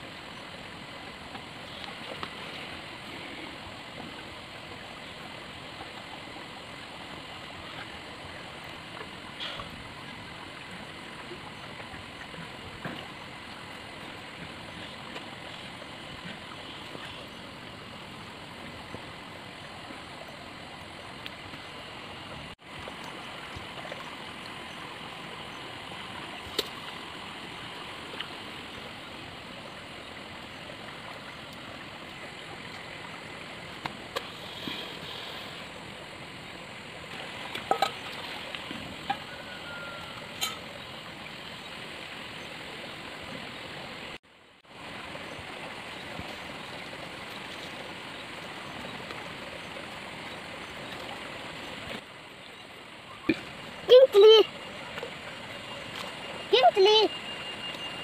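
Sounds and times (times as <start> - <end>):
rushing outdoor background noise: 0.0 - 58.0.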